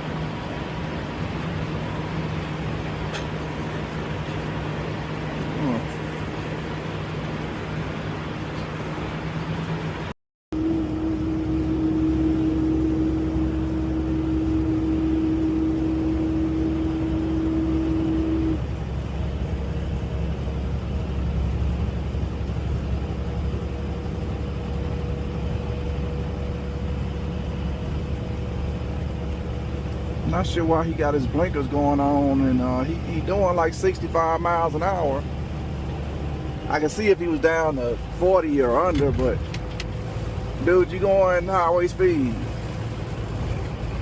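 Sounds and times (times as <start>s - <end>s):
held whine: 0.0s - 44.0s
truck engine and road drone: 0.0s - 44.0s.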